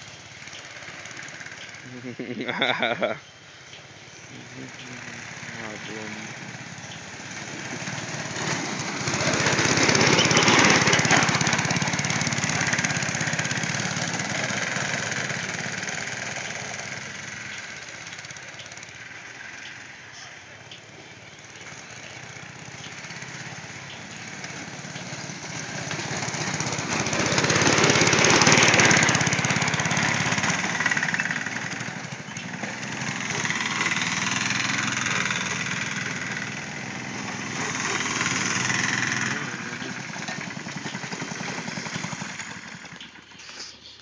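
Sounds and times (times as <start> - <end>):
go-kart engines racing: 0.0 - 44.0.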